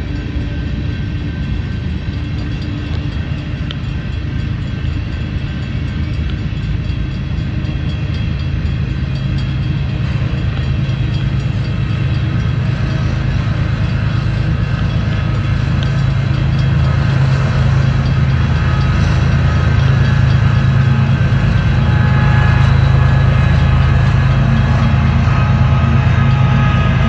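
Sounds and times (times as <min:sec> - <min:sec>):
freight train cars rolling past: 0:00.0 - 0:27.0.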